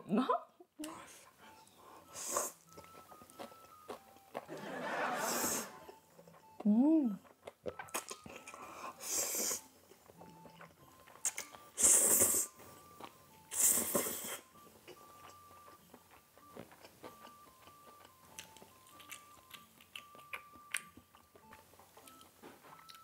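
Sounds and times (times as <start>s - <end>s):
soft chewing: 0.8s - 23.0s.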